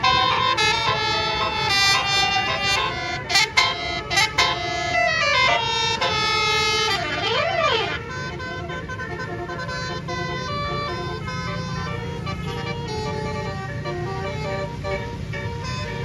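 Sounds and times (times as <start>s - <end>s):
multi-trumpet bus horn tune: 0.0s - 16.0s.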